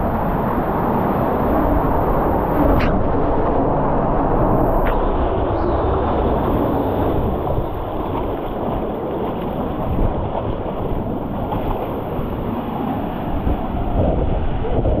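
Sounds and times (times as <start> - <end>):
water rushing and churning: 0.0 - 15.0
wind buffeting on microphone: 0.0 - 15.0.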